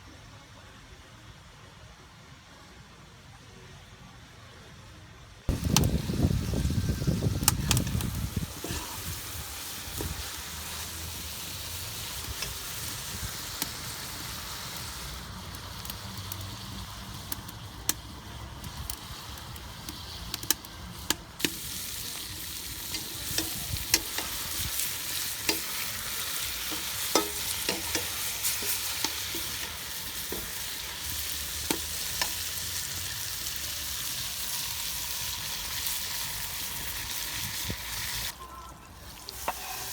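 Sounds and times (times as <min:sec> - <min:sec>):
food sizzling in hot oil: 0:05.5 - 0:39.9.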